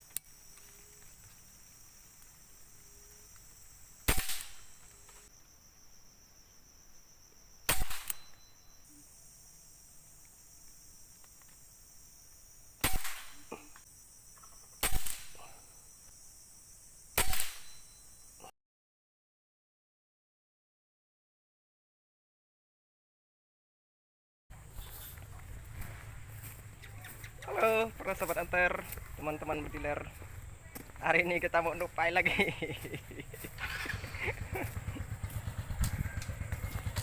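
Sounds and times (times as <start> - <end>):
high buzz of insects: 0.0 - 18.5, 24.5 - 37.0.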